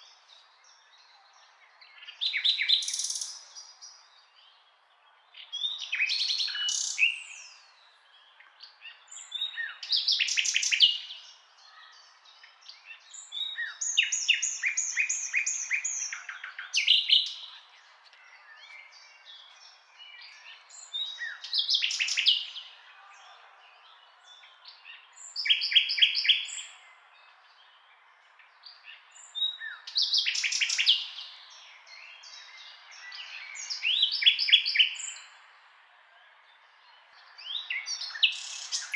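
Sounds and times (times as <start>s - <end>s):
nightingale singing: 0.0s - 4.7s, 5.3s - 22.8s, 24.2s - 35.4s, 37.0s - 38.9s.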